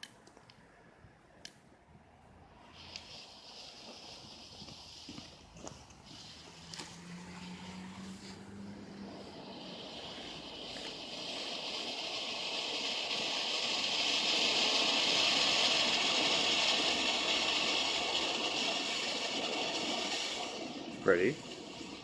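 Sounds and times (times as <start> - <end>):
firework fountain hissing: 2.4 - 22.0.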